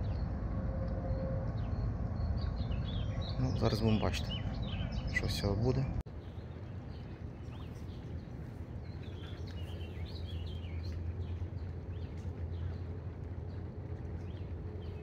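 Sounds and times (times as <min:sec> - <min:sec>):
steady low rumble: 0:00.0 - 0:15.0
small birds chirping: 0:01.6 - 0:15.0.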